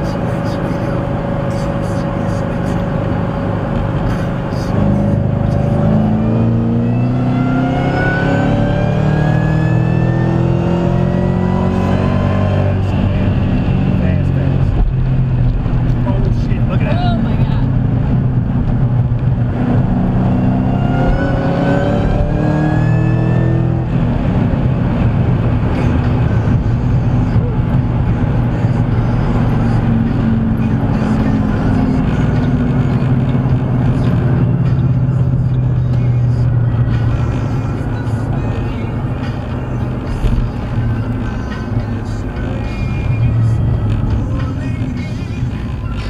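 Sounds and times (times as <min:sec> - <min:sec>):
car engine droning in cabin: 0:00.0 - 0:46.0.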